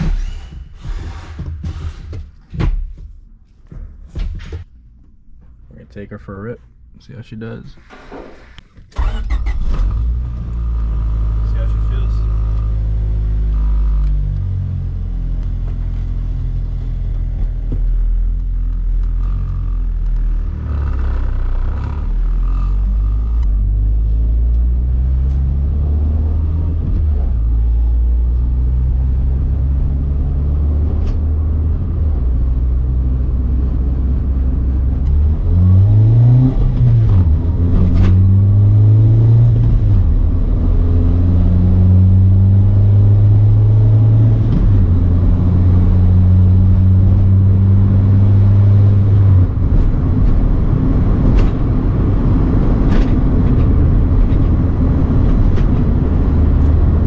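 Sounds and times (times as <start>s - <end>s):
car engine revving: 7.8s - 57.0s.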